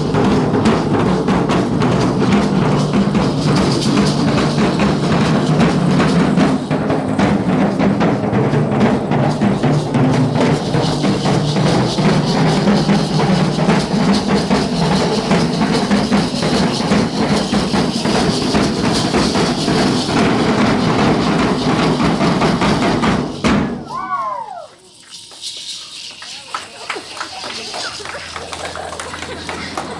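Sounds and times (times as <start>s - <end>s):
drums beating fast rhythm: 0.0s - 29.9s.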